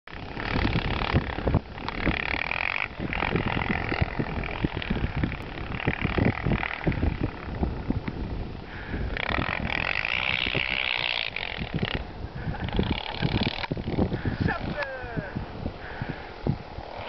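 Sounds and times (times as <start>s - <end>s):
quad bike engine revving: 0.1s - 17.0s.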